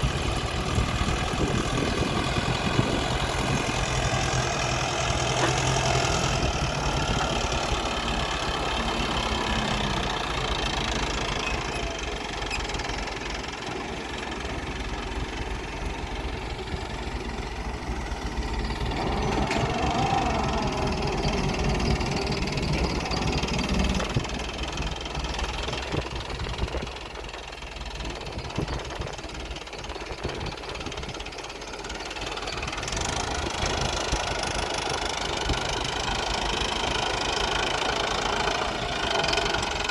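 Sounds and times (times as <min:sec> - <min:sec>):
diesel engines under load: 0:00.0 - 0:39.9.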